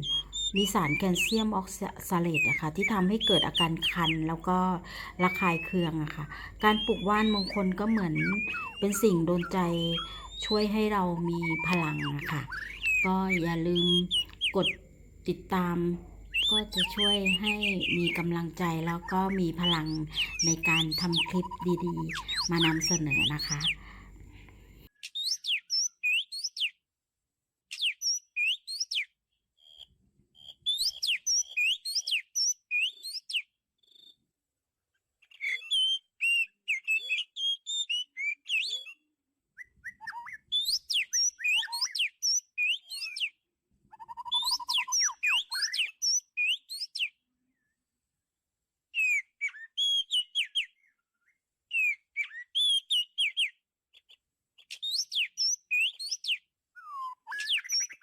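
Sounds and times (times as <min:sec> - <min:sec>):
bird singing whistled phrases: 0:00.0 - 0:24.0, 0:25.0 - 0:26.8, 0:27.7 - 0:29.1, 0:30.7 - 0:34.2, 0:35.3 - 0:39.0, 0:39.6 - 0:47.2, 0:49.0 - 0:53.6, 0:54.7 - 0:58.0.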